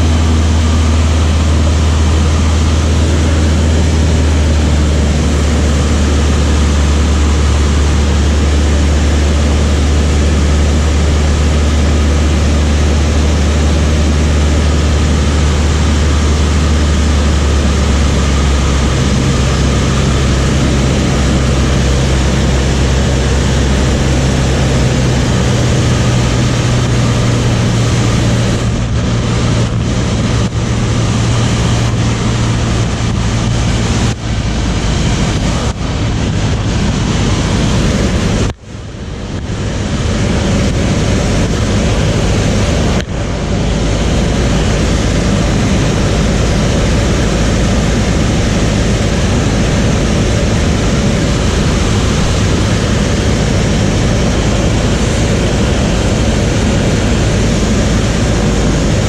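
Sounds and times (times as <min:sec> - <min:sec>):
low steady hum: 0:00.0 - 0:59.0
propeller aircraft engine drone: 0:00.0 - 0:59.0
rush of air noise: 0:00.0 - 0:59.0.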